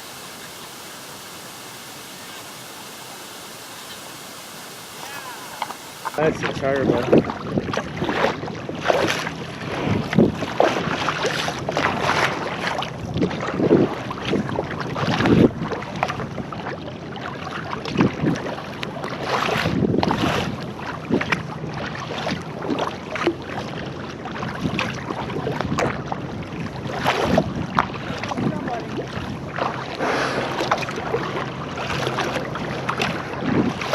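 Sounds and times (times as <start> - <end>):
water sloshing and splashing: 0.0 - 33.9
wind rumbling on microphone: 0.0 - 33.9.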